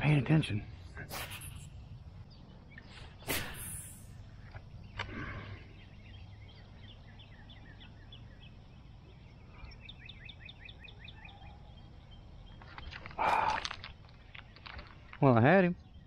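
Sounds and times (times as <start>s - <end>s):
low steady background noise: 0.0s - 16.0s
songbird chirping: 0.0s - 16.0s.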